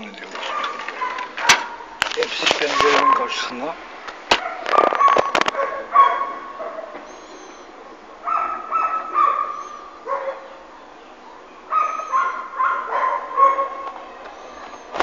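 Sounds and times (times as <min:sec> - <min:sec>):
dogs barking: 0:00.2 - 0:03.6, 0:04.3 - 0:14.9.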